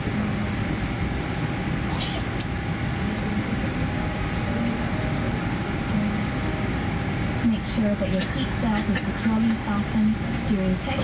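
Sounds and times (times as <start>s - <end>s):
airliner cabin rumble and hiss: 0.0s - 11.0s.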